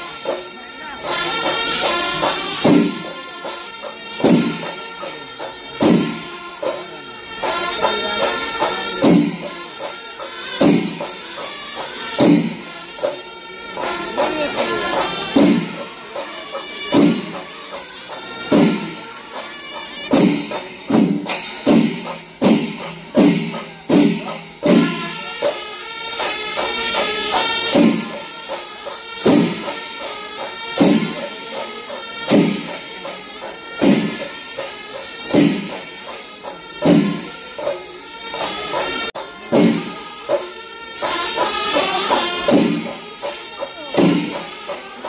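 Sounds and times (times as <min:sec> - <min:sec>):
drums beating heavy strokes: 0:00.0 - 0:45.0
hand cymbals clashing: 0:00.0 - 0:45.0.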